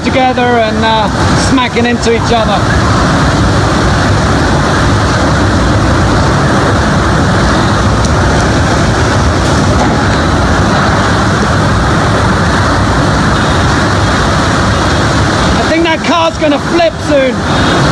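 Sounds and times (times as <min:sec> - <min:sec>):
roaring wind and rain: 0:00.0 - 0:17.9.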